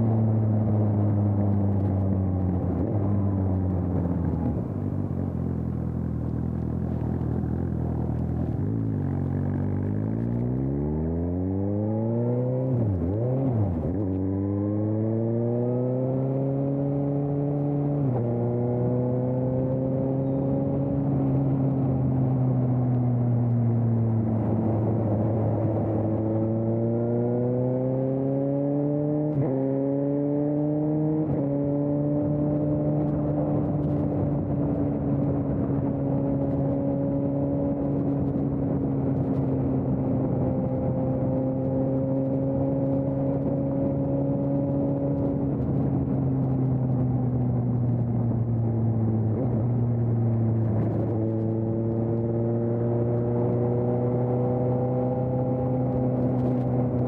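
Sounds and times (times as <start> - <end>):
motorcycle engine revving: 0.0 - 22.8, 23.4 - 57.0.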